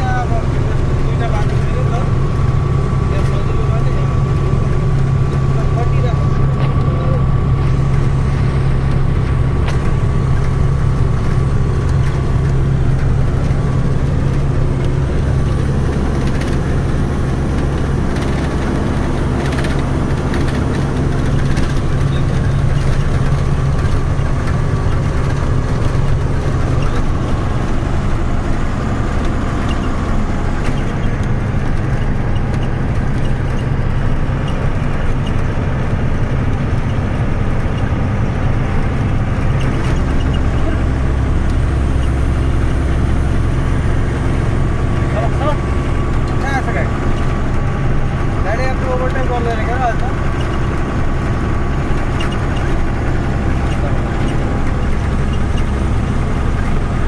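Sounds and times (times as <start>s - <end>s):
truck diesel engine running: 0.0s - 57.0s
tyre and road noise: 0.0s - 57.0s.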